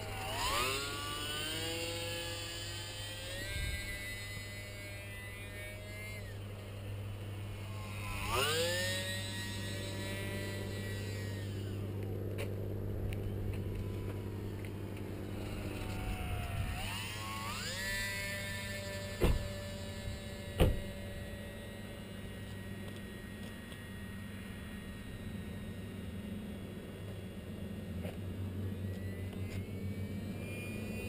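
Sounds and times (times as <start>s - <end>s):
electric motor and propeller whine: 0.0s - 31.0s.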